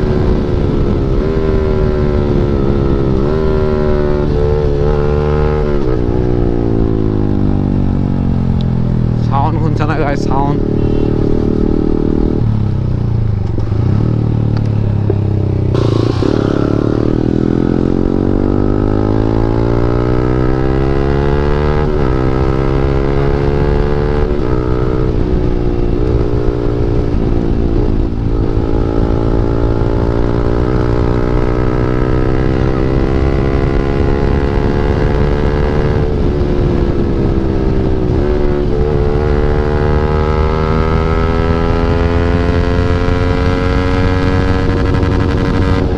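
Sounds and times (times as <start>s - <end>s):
motorcycle engine running loud: 0.0s - 45.9s.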